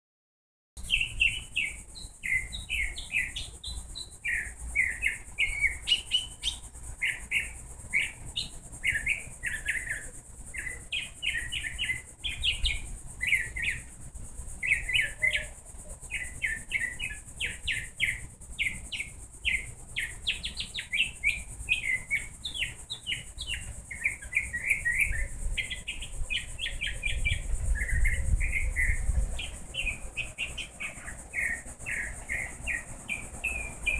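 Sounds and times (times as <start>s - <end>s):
songbirds chirping and singing: 0.8s - 33.9s
steady high hiss: 0.8s - 33.9s.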